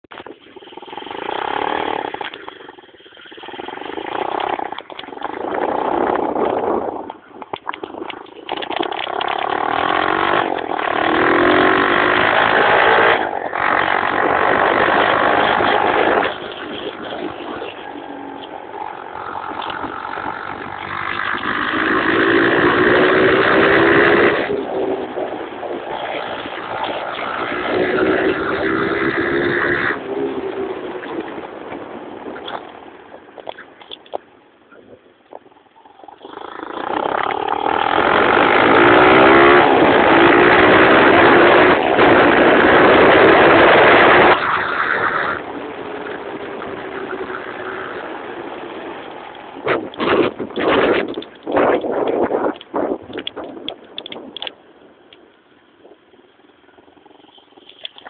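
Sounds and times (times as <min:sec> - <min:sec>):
motorbike engine revving: 0:00.4 - 0:06.7, 0:08.5 - 0:32.6, 0:36.1 - 0:52.6.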